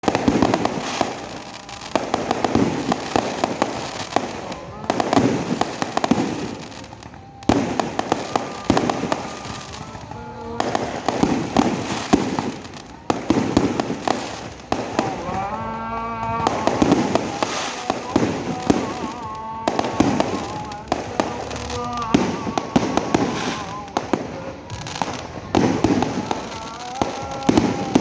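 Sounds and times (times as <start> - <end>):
fireworks popping and crackling: 0.0 - 28.0.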